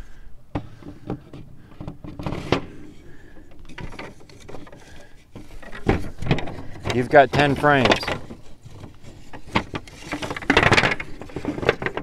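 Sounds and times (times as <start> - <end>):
wooden knocks and clunks: 0.5 - 12.0
wooden board scraping: 0.6 - 12.0.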